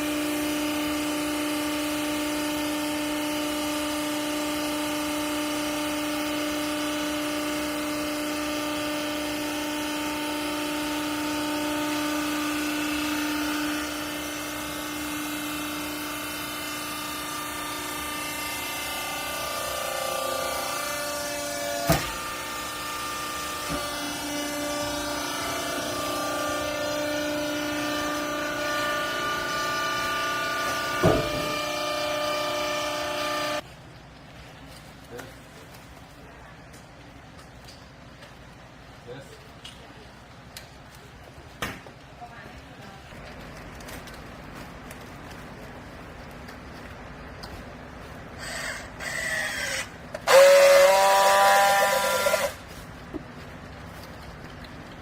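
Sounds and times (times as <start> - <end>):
baler machine hum and whine: 0.0 - 33.8, 42.2 - 55.0.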